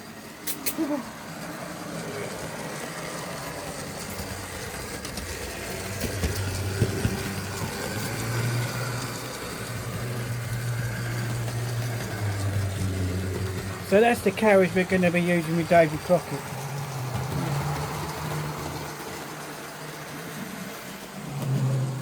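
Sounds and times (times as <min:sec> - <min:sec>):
model train motor humming: 0:00.0 - 0:22.0
wheels clicking on track: 0:00.0 - 0:22.0.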